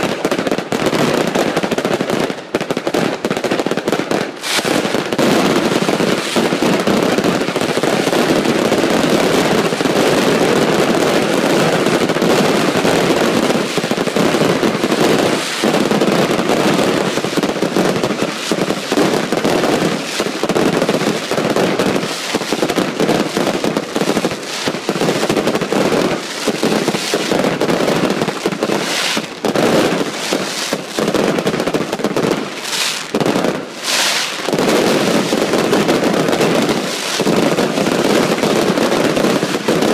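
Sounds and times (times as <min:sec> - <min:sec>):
fireworks launches and bangs: 0:00.0 - 0:39.9.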